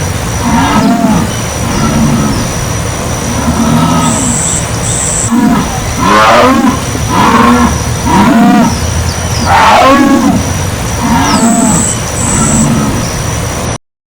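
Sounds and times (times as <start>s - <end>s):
jaguar grunting calls: 0.3s - 2.6s, 3.2s - 13.4s.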